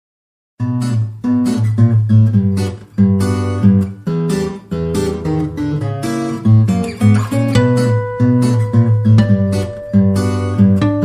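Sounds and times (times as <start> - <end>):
strummed acoustic guitar chords: 0.6 - 11.0.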